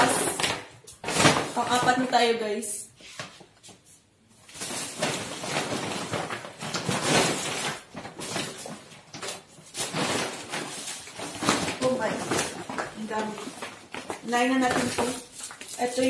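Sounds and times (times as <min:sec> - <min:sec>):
plastic bags rustling and crinkling: 0:00.0 - 0:16.0.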